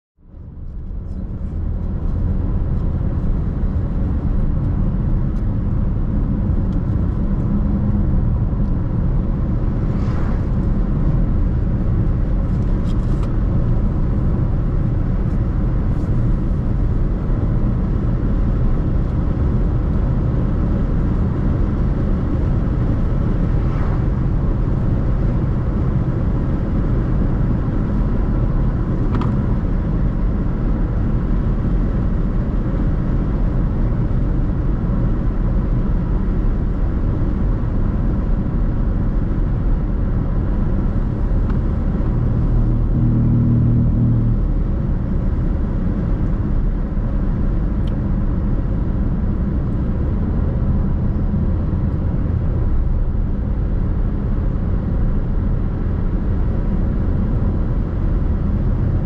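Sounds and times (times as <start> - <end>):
car tyres and engine rumbling: 0.2 - 59.0.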